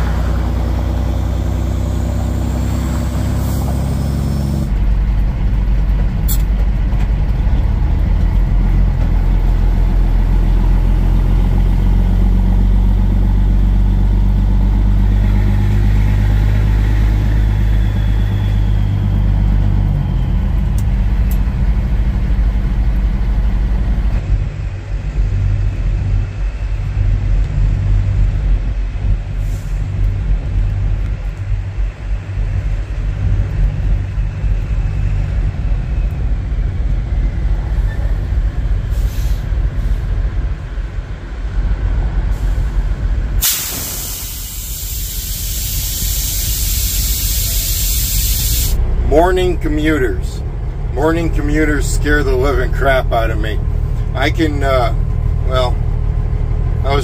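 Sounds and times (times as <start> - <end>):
diesel truck engine drone: 0.0 - 57.0.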